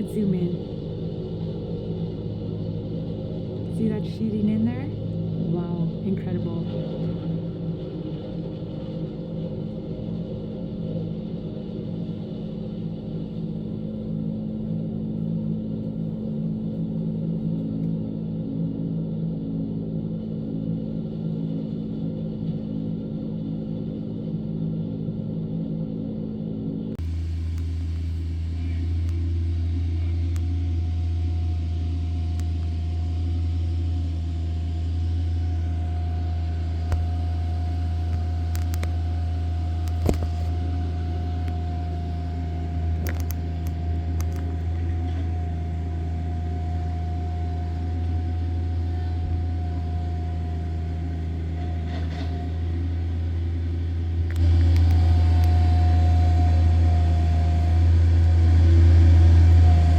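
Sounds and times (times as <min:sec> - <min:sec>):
steady whine: 0:00.0 - 0:59.9
wood chipper engine droning: 0:00.0 - 0:59.9.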